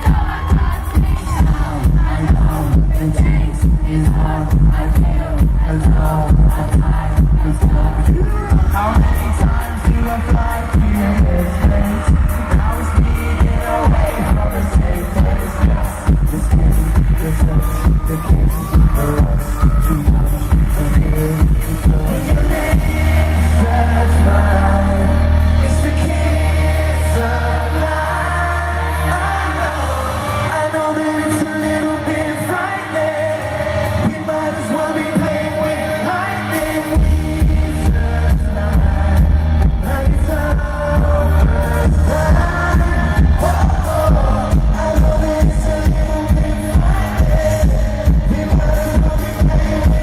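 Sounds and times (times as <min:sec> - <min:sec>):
electronic pop backing with bass beat: 0:00.0 - 0:50.0
male vocals: 0:00.0 - 0:50.0.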